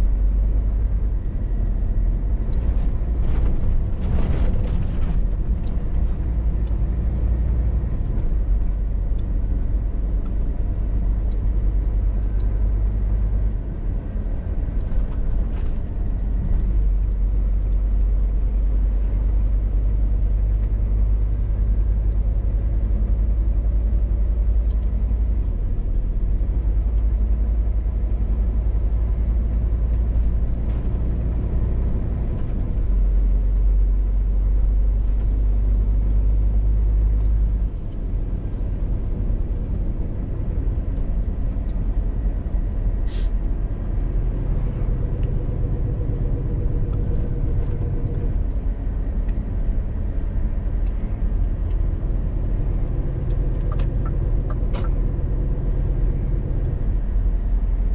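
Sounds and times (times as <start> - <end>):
lorry diesel engine rumbling: 0.0 - 57.9.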